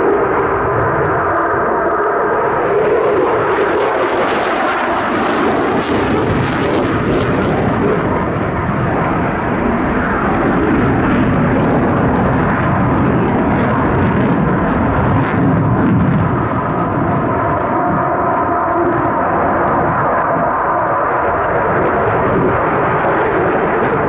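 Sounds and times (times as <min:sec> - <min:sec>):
fighter jet engine roar: 0:00.0 - 0:24.0
jet engine crackle: 0:00.0 - 0:24.0.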